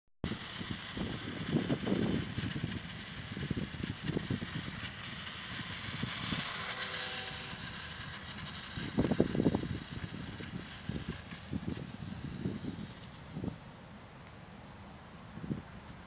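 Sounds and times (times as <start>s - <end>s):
vehicle engine: 0.2s - 16.0s
traffic rumble and hiss: 0.3s - 16.0s.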